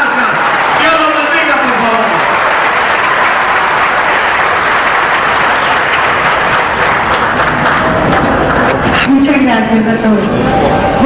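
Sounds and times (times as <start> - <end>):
crowd clapping: 0.0 - 9.1.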